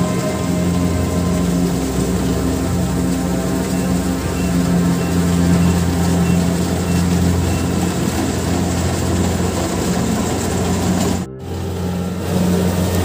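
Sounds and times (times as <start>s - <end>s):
diesel engine running: 0.0s - 13.0s
threshing machine noise: 0.0s - 13.0s.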